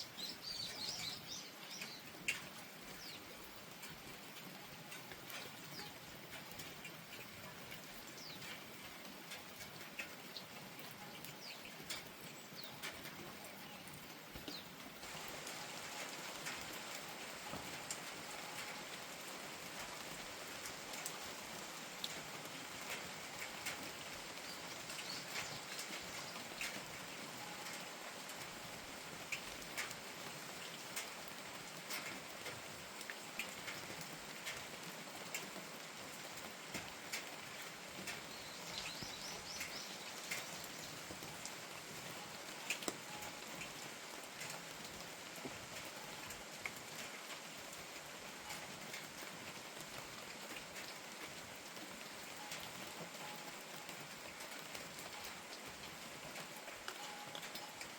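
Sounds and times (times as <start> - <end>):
raindrops ticking: 0.0 - 57.9
steady rain falling: 0.0 - 57.9.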